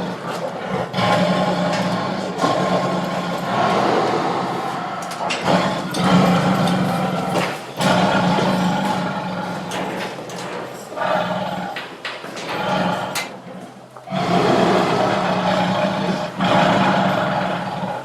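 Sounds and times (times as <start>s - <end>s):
tiger roaring: 0.0s - 18.0s.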